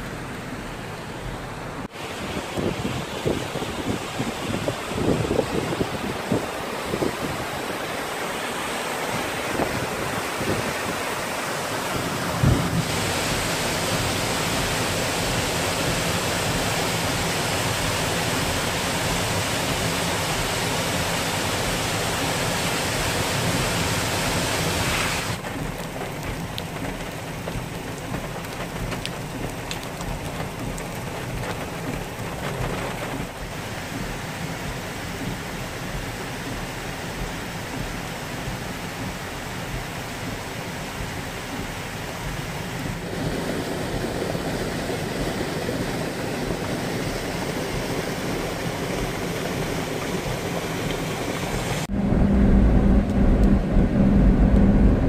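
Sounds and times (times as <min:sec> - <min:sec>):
flood water rushing: 0:00.0 - 0:51.9.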